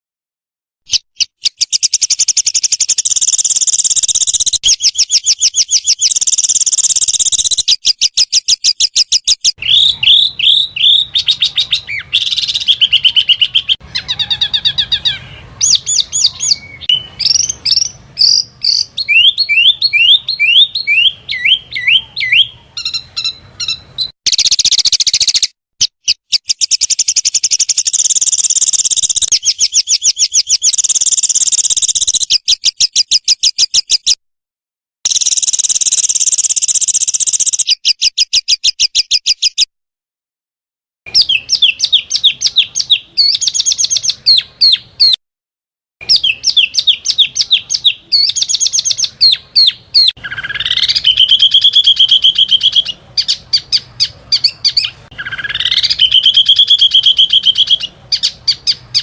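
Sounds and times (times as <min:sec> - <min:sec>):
songbirds trilling rapidly: 0:00.9 - 0:34.2, 0:35.1 - 0:39.7, 0:41.1 - 0:45.2, 0:46.0 - 0:59.0.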